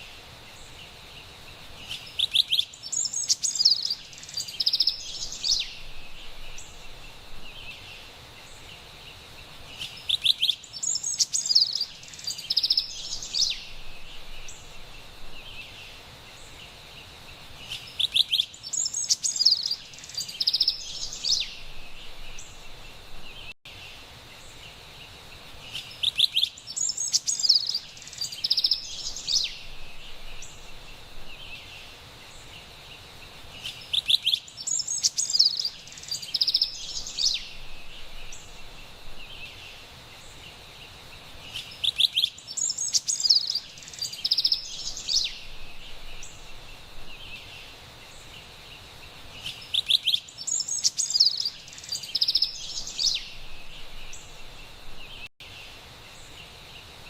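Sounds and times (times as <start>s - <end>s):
faint forest background hiss: 0.0s - 57.0s
wren singing: 1.8s - 8.9s, 9.7s - 16.7s, 17.6s - 23.6s, 25.6s - 32.8s, 33.5s - 40.5s, 41.3s - 55.6s.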